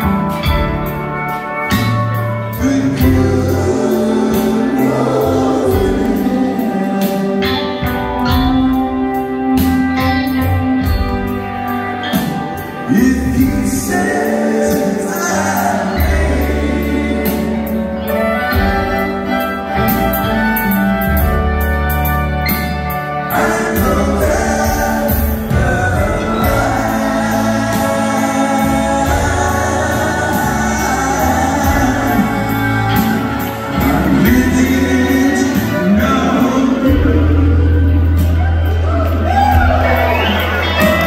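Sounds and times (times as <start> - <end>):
drums: 0.0 - 41.0
live band playing: 0.0 - 41.0
person singing: 1.7 - 20.0, 23.2 - 41.0.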